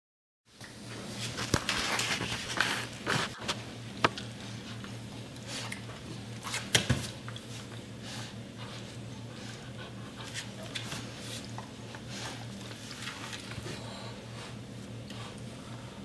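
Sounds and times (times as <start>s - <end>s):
steady low hum: 0.5s - 16.0s.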